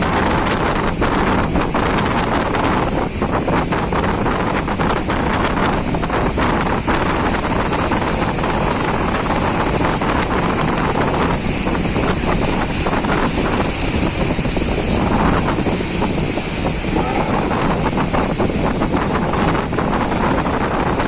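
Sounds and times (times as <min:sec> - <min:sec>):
surf and high waves: 0:00.0 - 0:21.0
wind buffeting microphone: 0:00.0 - 0:21.0.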